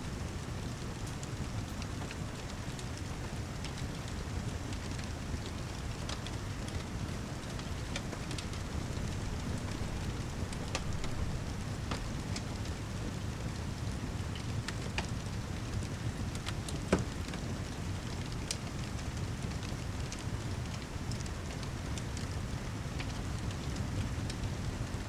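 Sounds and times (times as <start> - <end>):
wood fire crackling: 0.0 - 25.0
heavy rain: 0.1 - 25.0.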